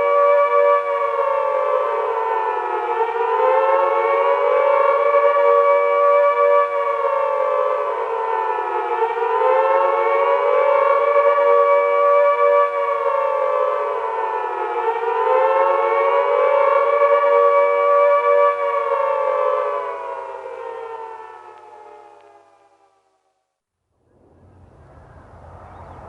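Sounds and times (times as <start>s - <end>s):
civil defense siren wailing: 0.0s - 26.0s.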